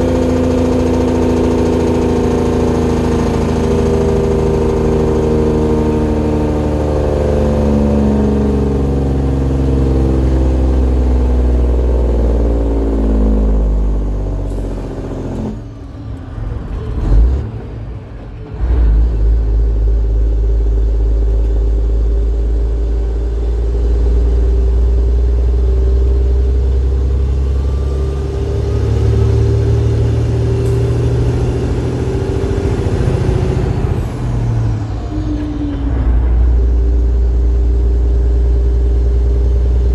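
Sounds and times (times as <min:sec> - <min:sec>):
diesel truck engine pulling: 0:00.0 - 0:39.9.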